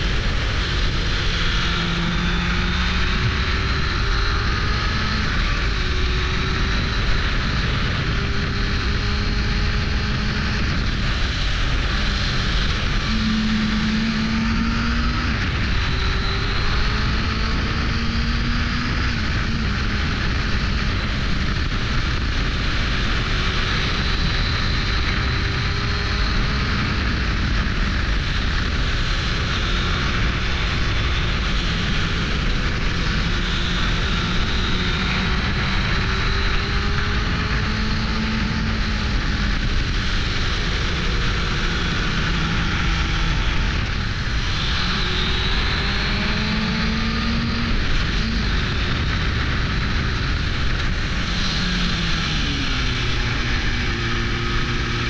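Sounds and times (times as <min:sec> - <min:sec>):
motorcycle engine revving: 0:00.0 - 0:55.0
wind rushing: 0:00.0 - 0:55.0.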